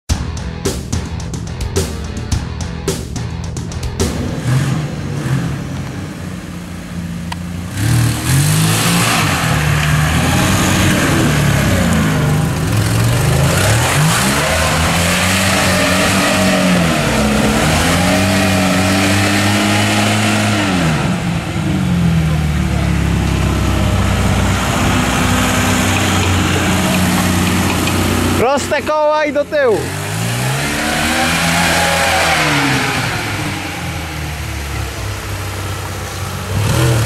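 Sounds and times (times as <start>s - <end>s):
car engine revving under load: 3.5s - 37.0s.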